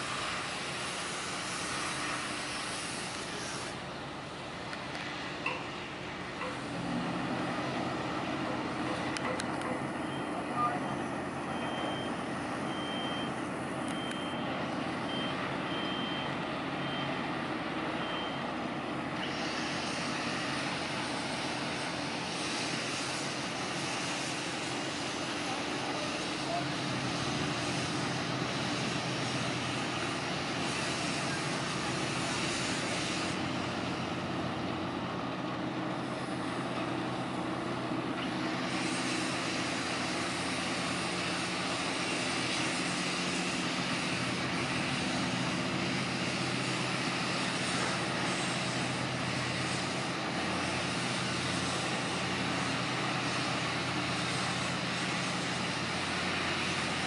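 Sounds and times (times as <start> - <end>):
boat diesel engine humming: 0.0 - 57.0.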